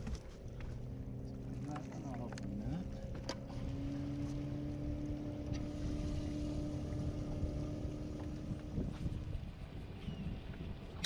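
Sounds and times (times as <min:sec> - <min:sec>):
boat motor humming: 0:00.0 - 0:11.0
low rumble: 0:00.0 - 0:11.0.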